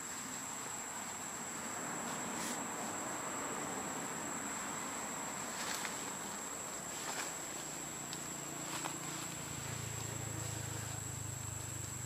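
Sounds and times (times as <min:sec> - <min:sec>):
forest ambience hiss: 0:00.0 - 0:12.0
high-pitched insect drone: 0:00.0 - 0:12.0.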